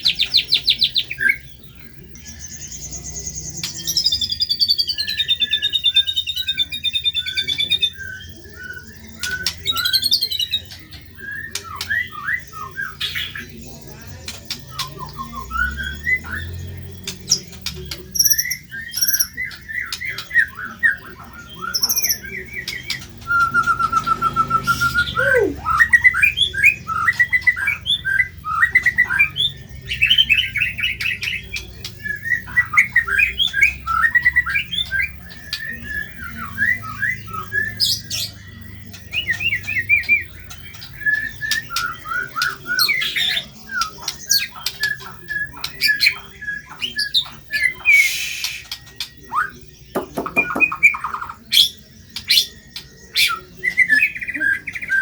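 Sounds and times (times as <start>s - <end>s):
bird singing chattering song: 0.0s - 55.0s.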